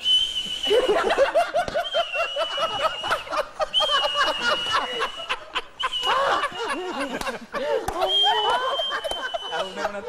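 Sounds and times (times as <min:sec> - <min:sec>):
high steady whistle: 0:00.0 - 0:06.8, 0:08.0 - 0:09.9
people laughing: 0:00.5 - 0:10.0.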